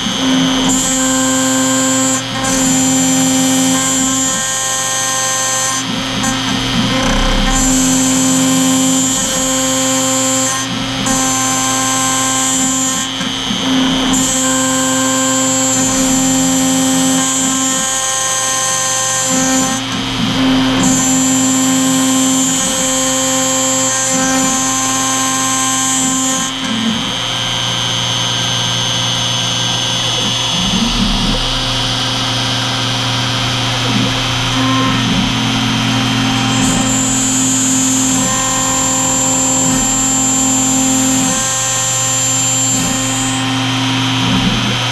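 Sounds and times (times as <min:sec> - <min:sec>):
high machine whine: 0:00.0 - 0:44.9
router spindle running: 0:00.0 - 0:44.9.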